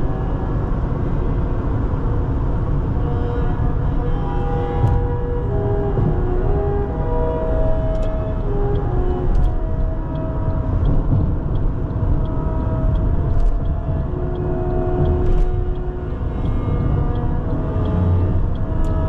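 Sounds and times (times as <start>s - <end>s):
car road rumble: 0.0s - 19.0s
music with long held notes: 0.0s - 19.0s.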